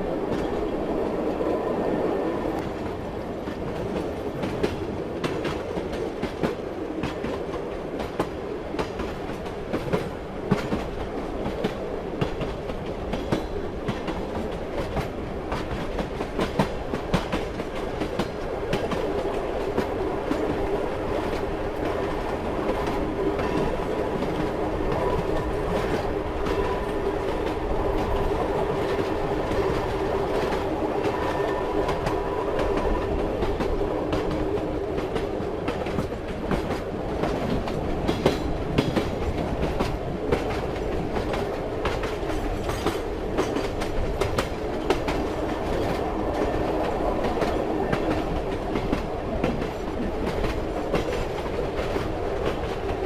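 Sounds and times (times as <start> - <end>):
railway carriage rumble: 0.0 - 53.0
train wheels clacking over rail joints: 3.5 - 20.6, 22.6 - 53.0.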